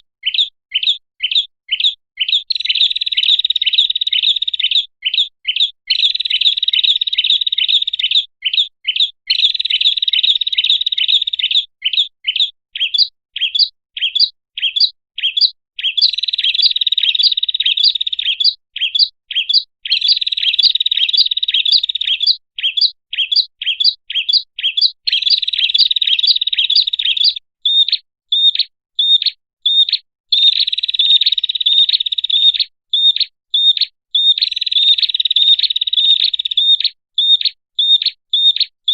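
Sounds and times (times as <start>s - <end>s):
bird chirps and trills: 0.2s - 38.9s.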